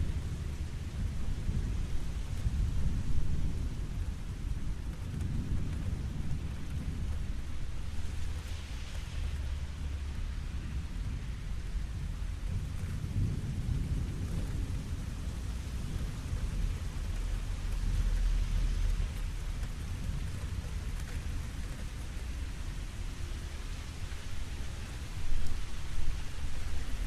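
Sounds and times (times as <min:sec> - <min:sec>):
low rolling thunder: 0:00.0 - 0:08.6, 0:09.2 - 0:27.0
rain falling on a lake: 0:00.0 - 0:27.0.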